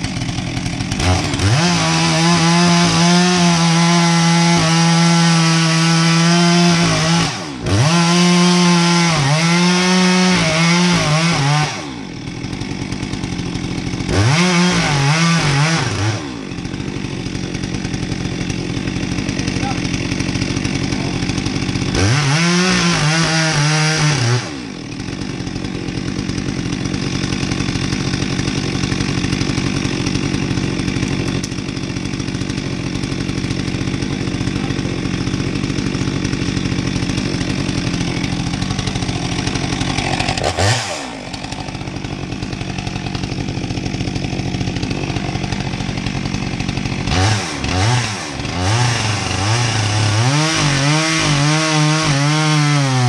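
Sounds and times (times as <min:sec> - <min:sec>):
chainsaw revving and idling: 0:00.0 - 0:53.0.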